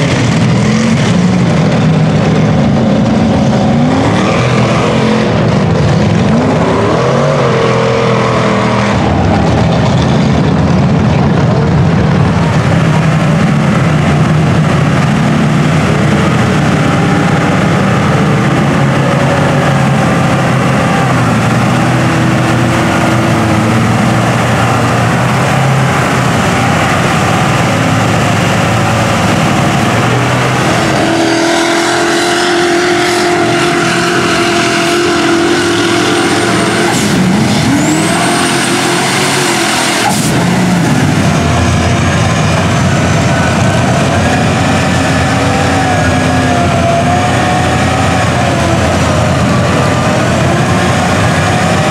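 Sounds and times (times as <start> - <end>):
engine holding a steady high note: 0.0 - 51.9
truck engines revving in mud: 0.0 - 51.9.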